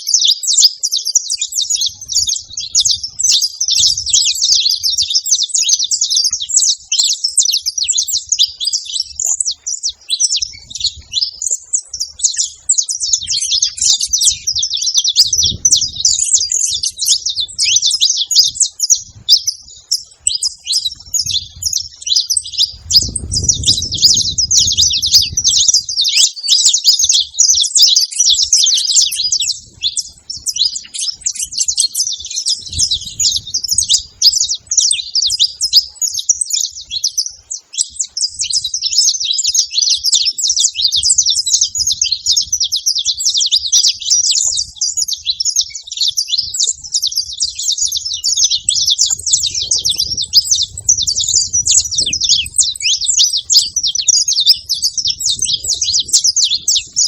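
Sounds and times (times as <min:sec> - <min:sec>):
finches chirping and singing: 0:00.0 - 0:57.0.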